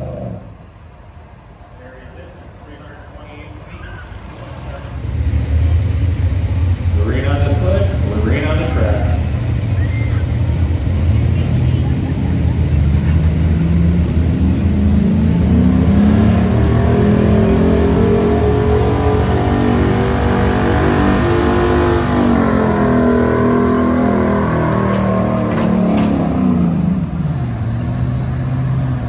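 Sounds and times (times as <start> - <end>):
pickup truck engine at full throttle: 4.8 - 29.0.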